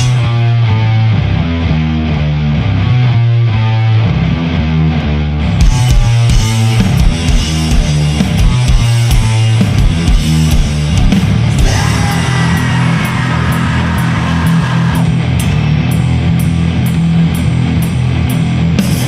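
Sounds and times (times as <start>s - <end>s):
distorted guitars and bass: 0.0s - 19.0s
drums: 0.0s - 19.0s.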